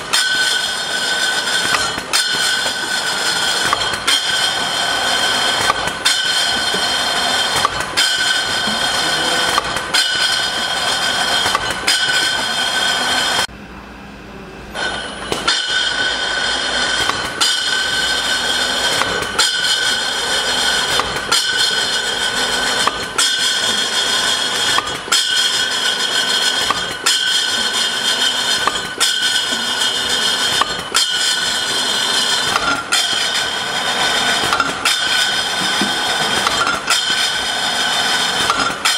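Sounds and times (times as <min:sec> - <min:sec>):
regular mechanical knocks: 0:00.0 - 0:13.5, 0:14.8 - 0:38.9
machine mechanical whine: 0:00.0 - 0:38.9.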